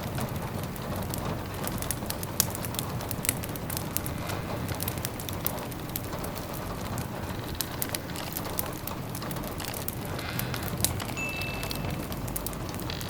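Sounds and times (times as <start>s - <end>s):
rain tapping on windows: 0.0s - 13.0s
wood fire crackling: 0.0s - 13.0s.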